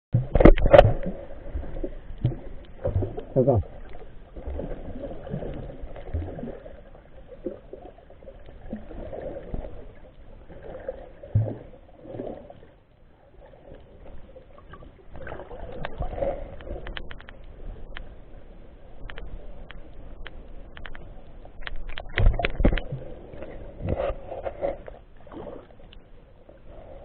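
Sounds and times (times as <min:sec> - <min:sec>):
sea water lapping and sloshing: 0:00.2 - 0:27.0.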